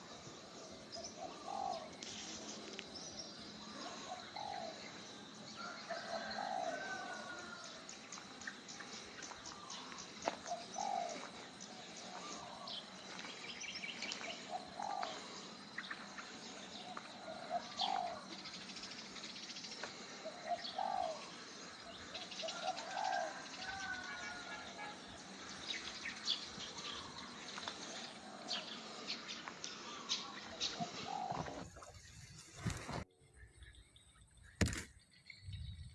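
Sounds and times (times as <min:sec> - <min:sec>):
low cooing bird calls: 0:00.1 - 0:02.9, 0:03.5 - 0:07.8, 0:08.8 - 0:33.7.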